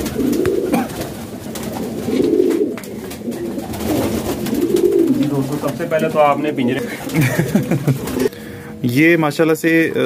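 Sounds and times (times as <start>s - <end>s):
pigeons cooing: 0.0s - 8.3s.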